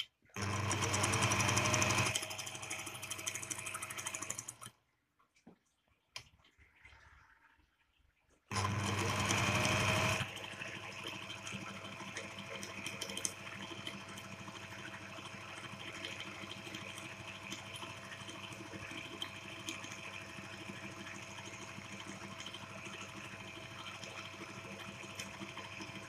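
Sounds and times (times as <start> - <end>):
electric sewing machine stitching: 0.4 - 4.7, 8.5 - 26.0.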